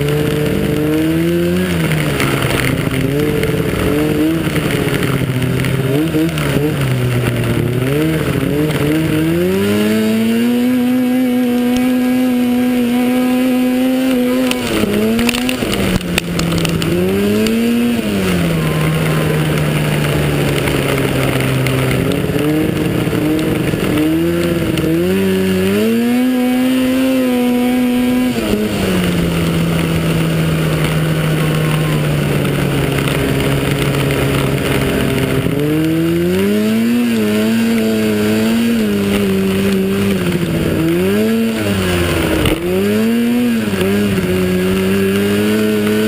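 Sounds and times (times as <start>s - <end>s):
snowmobile engine revving: 0.0s - 46.0s
steady rushing noise: 0.0s - 46.0s.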